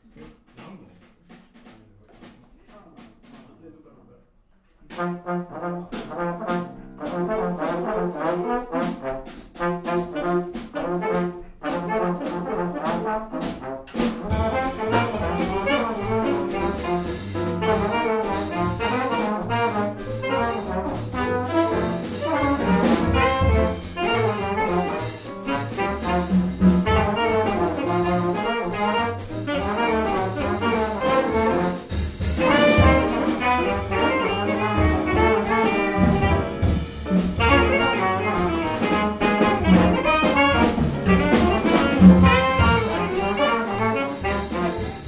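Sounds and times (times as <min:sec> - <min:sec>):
drums: 0:00.0 - 0:03.9, 0:04.8 - 0:45.0
piano: 0:04.9 - 0:45.0
double bass: 0:05.1 - 0:45.0.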